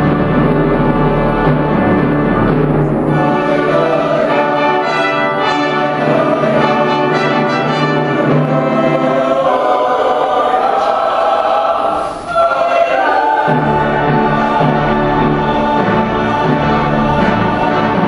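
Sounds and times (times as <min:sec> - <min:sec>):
brass accompaniment: 0:00.0 - 0:11.3, 0:13.0 - 0:18.0
choir singing a hymn: 0:00.0 - 0:18.0.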